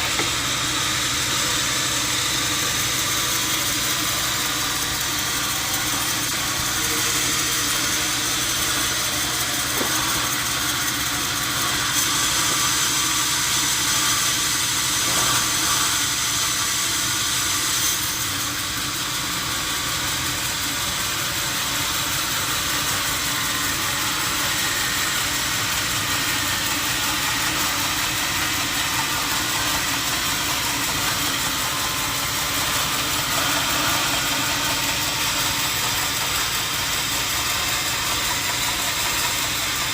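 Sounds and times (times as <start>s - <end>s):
sawmill machinery din with hiss: 0.0s - 39.9s.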